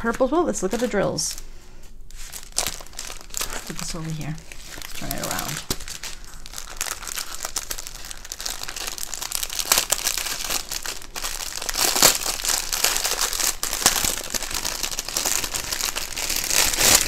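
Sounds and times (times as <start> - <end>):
plastic bag crinkling: 0.0 - 1.5, 2.1 - 17.0.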